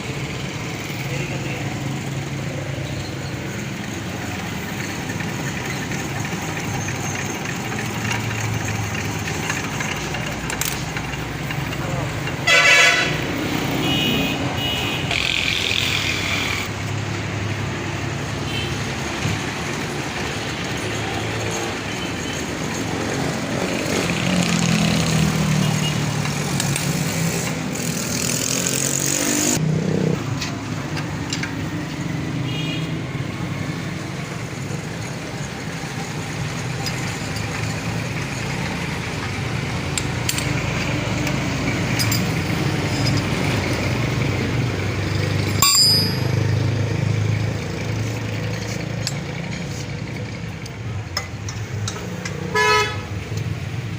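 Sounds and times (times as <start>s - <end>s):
street noise: 0.0s - 53.9s.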